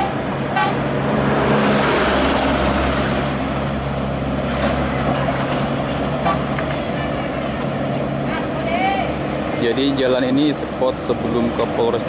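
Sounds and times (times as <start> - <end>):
buses and trucks passing: 0.0 - 12.0.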